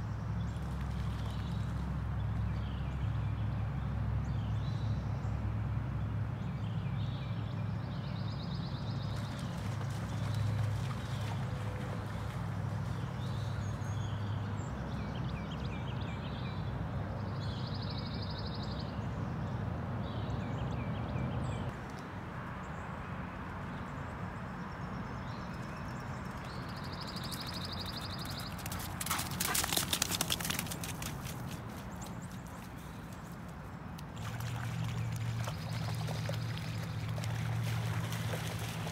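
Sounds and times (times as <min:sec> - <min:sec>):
songbirds trilling and chirping: 0:00.0 - 0:22.0, 0:22.6 - 0:38.9.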